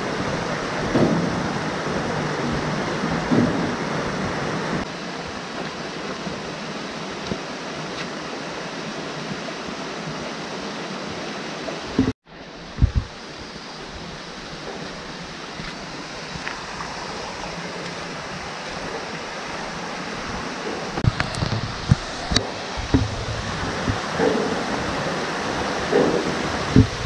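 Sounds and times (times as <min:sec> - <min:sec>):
stream rushing over rock: 0:00.0 - 0:27.0.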